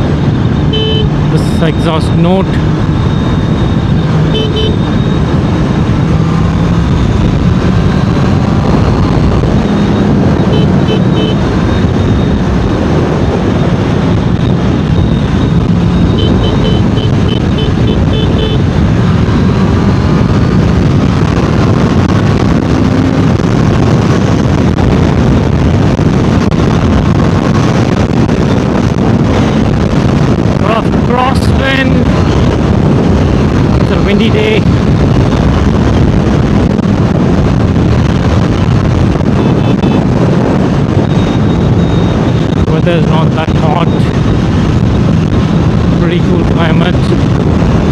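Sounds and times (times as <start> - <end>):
motorcycle engine and exhaust: 0.0 - 47.9
wind rushing over microphone: 0.0 - 47.9.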